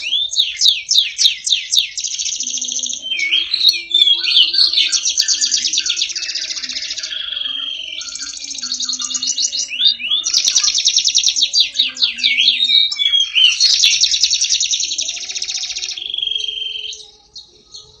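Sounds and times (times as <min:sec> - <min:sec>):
canary singing trills: 0:00.0 - 0:18.0.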